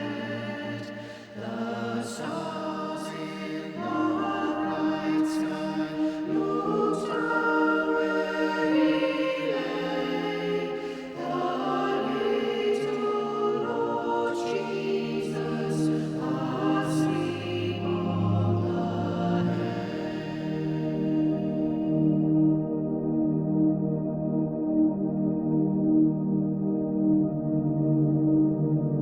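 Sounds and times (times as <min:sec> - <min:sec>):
electronic choir-like pads: 0:00.0 - 0:29.0.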